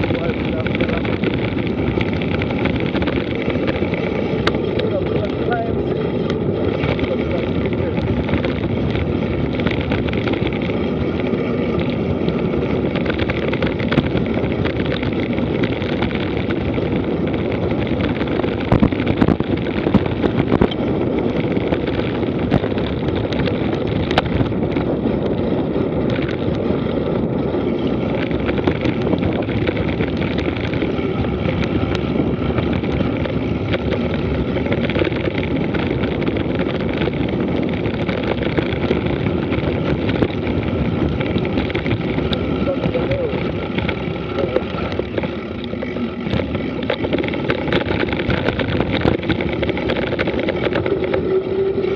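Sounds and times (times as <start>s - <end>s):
bike rattling over bumps: 0.0s - 51.9s
bike tyres rolling on dirt: 0.0s - 51.9s
wind rushing over microphone: 0.0s - 51.9s.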